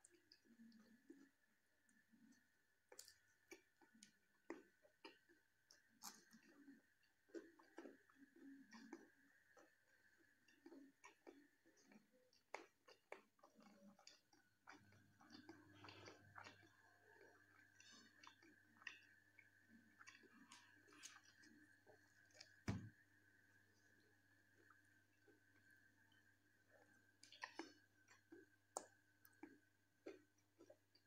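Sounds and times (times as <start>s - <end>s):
chewing and mouth clicks: 0.0s - 22.7s, 23.8s - 31.0s.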